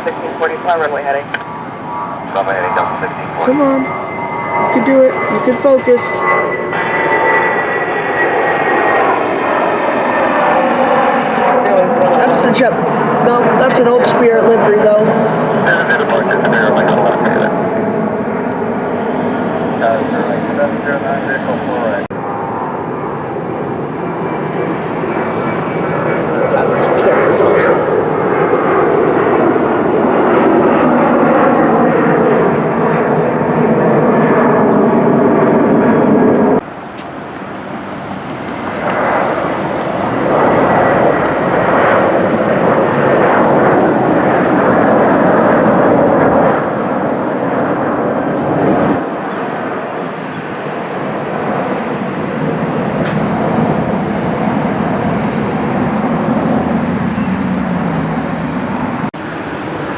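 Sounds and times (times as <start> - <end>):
jet engines rushing past: 0.0 - 59.9.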